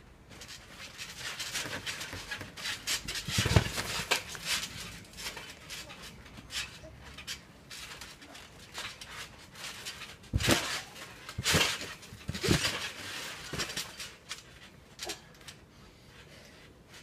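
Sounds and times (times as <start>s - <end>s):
bodies thudding on trampoline: 0.3s - 15.3s.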